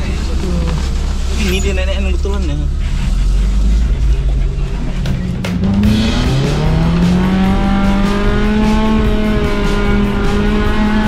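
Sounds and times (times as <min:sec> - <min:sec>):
off-road vehicle engine revving: 0:00.0 - 0:11.0
music: 0:01.8 - 0:11.0.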